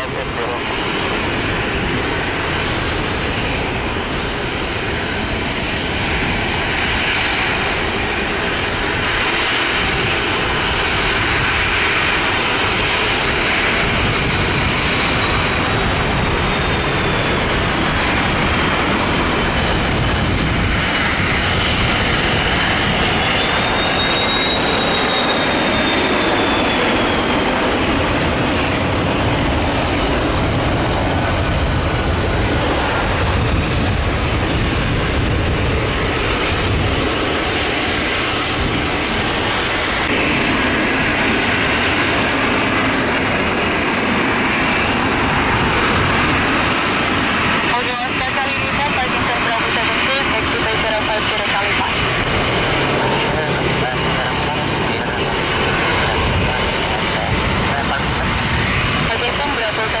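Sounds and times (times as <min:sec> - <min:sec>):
high engine whine: 0:00.0 - 1:00.0
jet engines on landing: 0:00.0 - 1:00.0.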